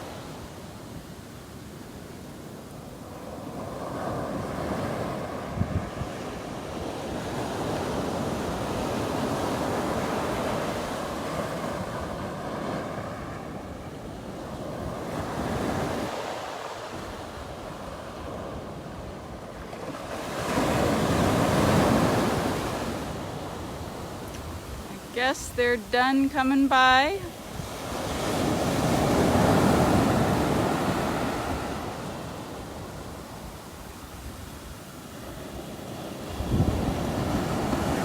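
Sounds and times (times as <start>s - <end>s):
surf breaking on beach: 3.1s - 38.0s
wind buffeting microphone: 3.6s - 16.2s, 16.9s - 38.0s.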